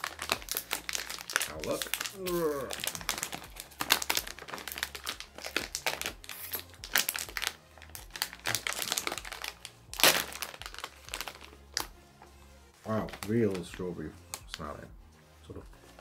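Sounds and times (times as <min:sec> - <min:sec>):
plastic packet crinkling: 0:00.0 - 0:12.0, 0:12.9 - 0:14.7.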